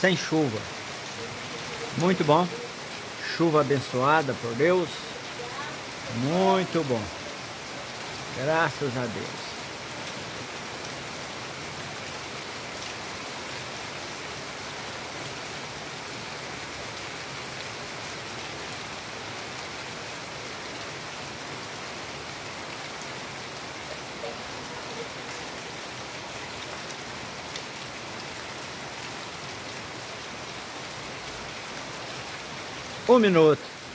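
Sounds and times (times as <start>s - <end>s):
heavy rain on pavement: 0.0s - 33.9s
sharp raindrops: 0.0s - 33.9s.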